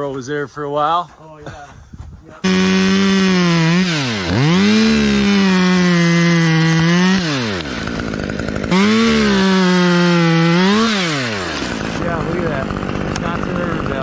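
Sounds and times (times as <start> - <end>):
chainsaw revving: 2.4 - 14.0.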